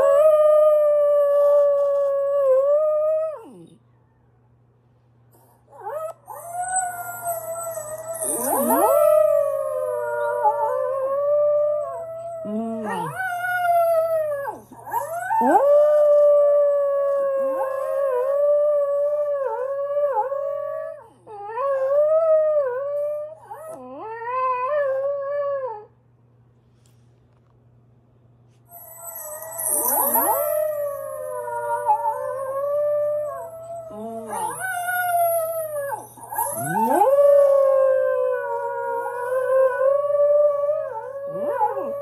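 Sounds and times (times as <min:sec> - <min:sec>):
dog howling: 0:00.0 - 0:03.8, 0:05.7 - 0:25.9, 0:28.7 - 0:42.0
recorded dog howling playback: 0:00.0 - 0:04.4, 0:05.4 - 0:25.9, 0:28.7 - 0:42.0.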